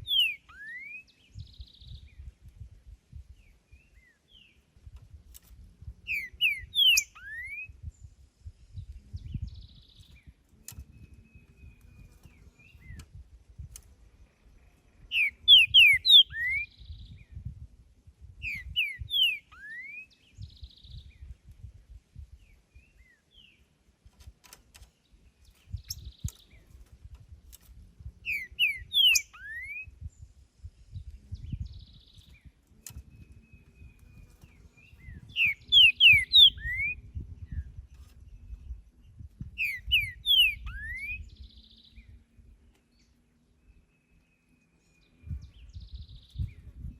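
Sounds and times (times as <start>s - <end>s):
bird singing whistled notes: 0.0s - 2.4s, 3.1s - 4.6s, 6.0s - 13.8s, 14.7s - 17.6s, 18.4s - 21.4s, 25.2s - 26.8s, 28.1s - 46.9s.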